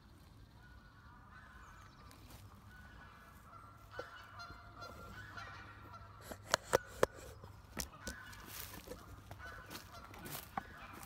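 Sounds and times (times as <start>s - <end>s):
birds honking: 0.0s - 11.0s.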